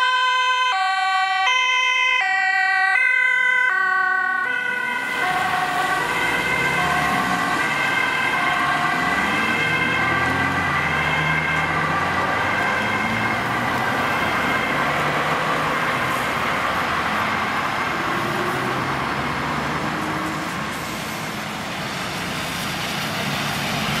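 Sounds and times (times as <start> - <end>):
ambulance two-tone siren: 0.0 - 21.5
engine and traffic noise: 0.0 - 24.0.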